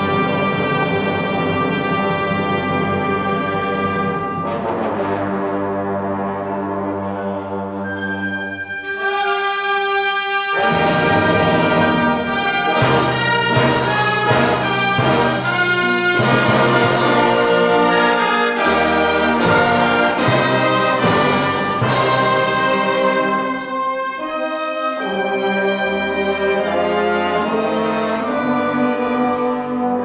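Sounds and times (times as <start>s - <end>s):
brass band playing a hymn: 0.0s - 30.0s.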